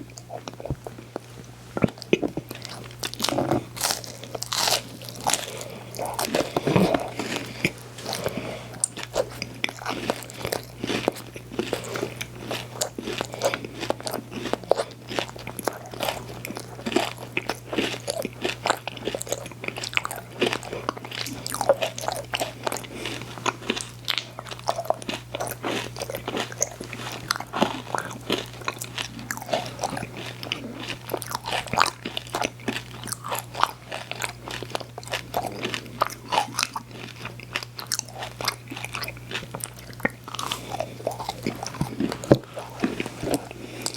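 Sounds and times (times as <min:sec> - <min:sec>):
crunching ice cream sandwich: 0:00.0 - 0:43.9.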